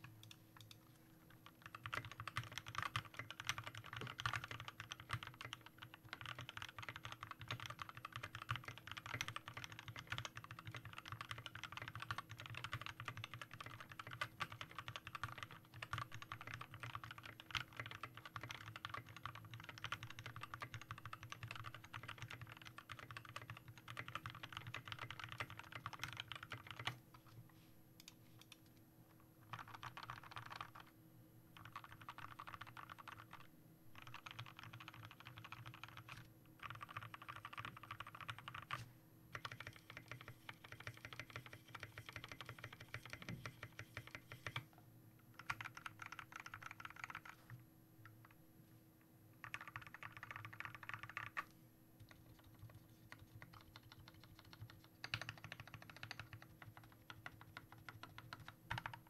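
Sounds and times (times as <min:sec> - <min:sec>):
mechanical keyboard typing: 0:01.4 - 0:27.0, 0:29.4 - 0:30.9, 0:31.6 - 0:44.7, 0:45.4 - 0:48.4, 0:49.4 - 0:59.0.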